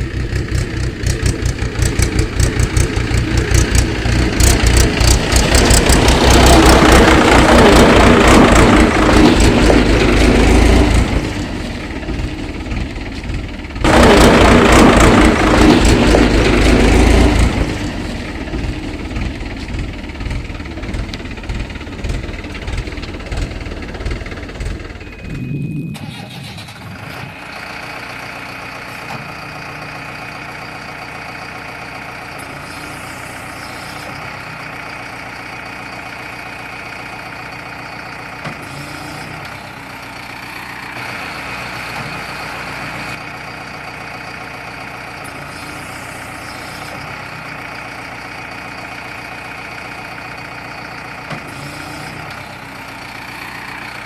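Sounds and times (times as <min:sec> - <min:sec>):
heavy pulsing engine: 0:00.0 - 0:54.0
smooth engine with high whine: 0:00.0 - 0:54.0.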